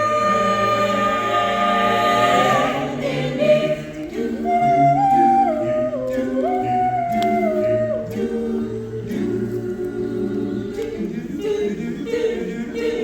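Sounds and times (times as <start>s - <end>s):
a cappella group singing: 0.0s - 13.0s.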